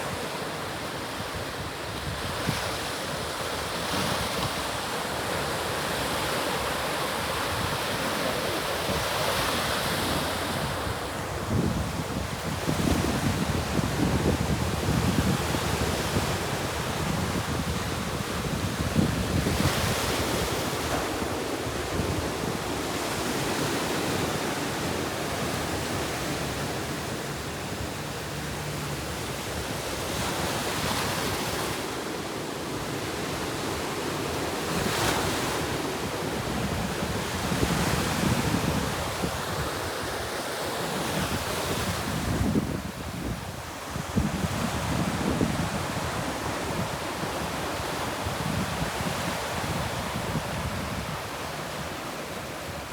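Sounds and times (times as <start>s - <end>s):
ocean waves breaking: 0.0s - 52.9s
wind rumbling on microphone: 1.2s - 31.8s, 34.7s - 40.4s, 41.0s - 52.9s.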